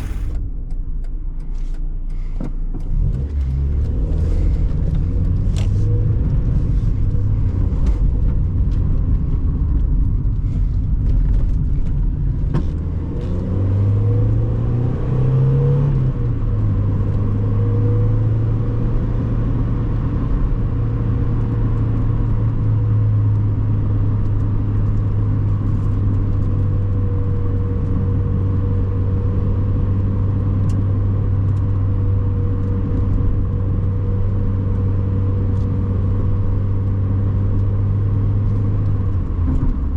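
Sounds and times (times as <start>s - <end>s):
car engine running: 0.0s - 14.2s, 20.0s - 39.9s.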